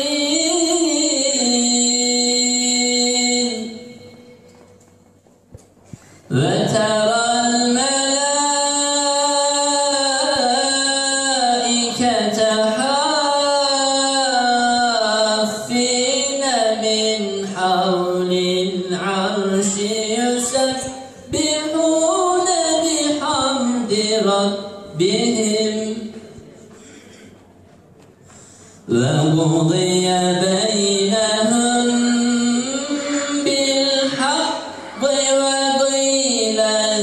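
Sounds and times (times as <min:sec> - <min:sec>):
person chanting recitation: 0:00.0 - 0:04.8, 0:06.2 - 0:26.8, 0:28.8 - 0:37.0.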